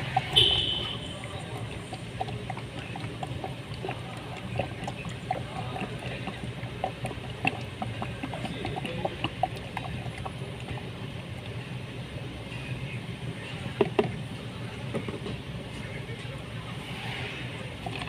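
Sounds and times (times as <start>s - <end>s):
fluid gurgling down a funnel: 0.0s - 15.0s, 15.8s - 18.0s.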